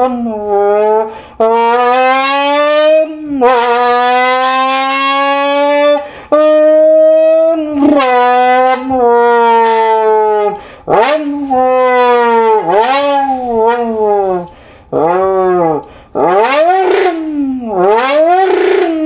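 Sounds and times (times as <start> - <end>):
mouth imitating engine drone: 0.0 - 19.0.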